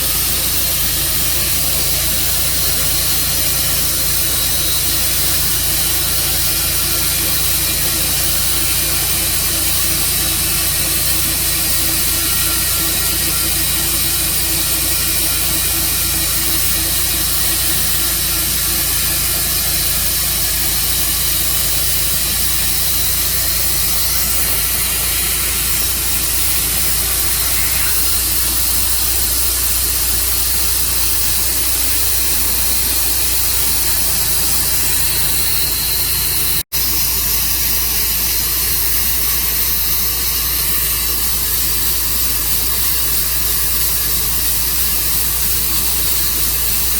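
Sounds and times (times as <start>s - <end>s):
portable sawmill running: 0.0s - 46.9s.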